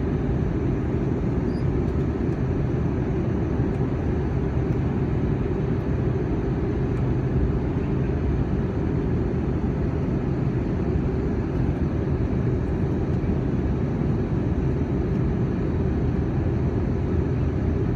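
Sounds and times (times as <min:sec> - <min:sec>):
airliner cabin engine rumble: 0:00.0 - 0:17.9.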